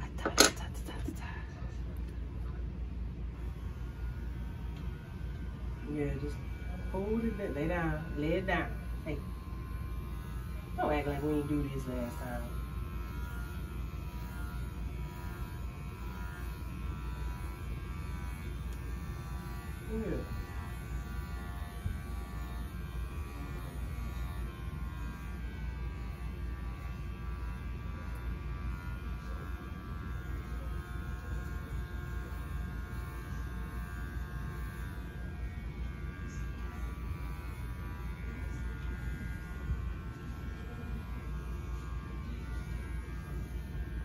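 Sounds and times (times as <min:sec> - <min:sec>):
electric clippers buzzing: 0:03.3 - 0:44.0.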